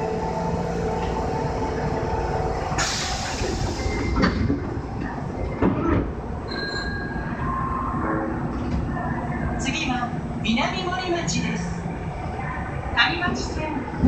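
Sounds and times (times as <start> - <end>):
subway car equipment hum: 0.0 - 14.0.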